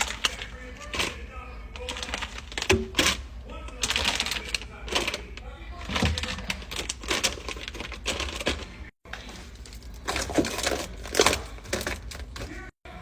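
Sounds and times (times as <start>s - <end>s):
containers clicking and clinking: 0.0s - 12.7s
packaging crinkling: 0.0s - 12.7s.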